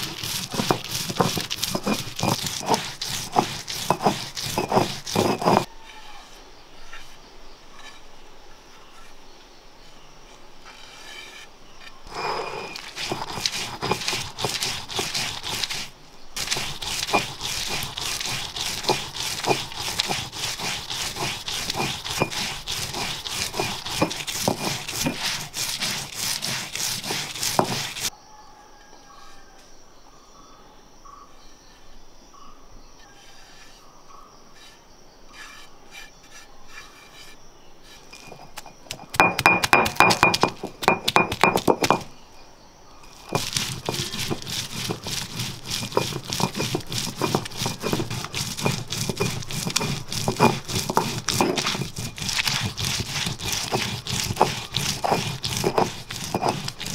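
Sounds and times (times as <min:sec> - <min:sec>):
stone roller grinding on stone: 0:00.0 - 0:07.2, 0:07.8 - 0:08.1, 0:10.6 - 0:28.1, 0:34.6 - 0:42.1, 0:43.0 - 0:56.9.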